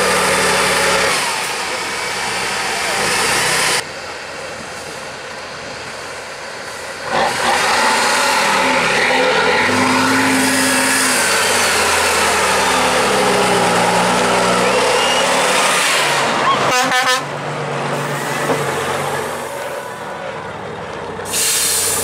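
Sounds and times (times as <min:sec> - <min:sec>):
truck diesel engine under load: 0:00.0 - 0:22.0.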